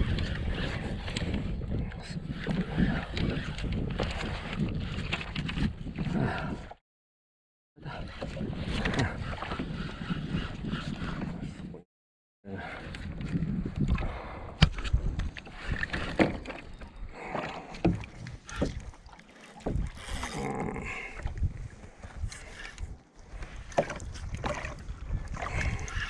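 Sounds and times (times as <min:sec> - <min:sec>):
water sloshing around kayak: 0:00.0 - 0:06.8, 0:07.8 - 0:11.8, 0:12.6 - 0:26.0.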